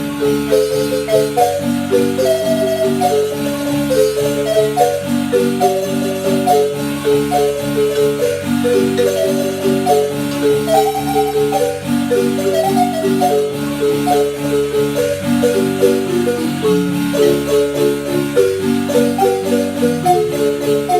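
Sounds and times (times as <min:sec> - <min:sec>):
marimba melody: 0:00.0 - 0:20.9.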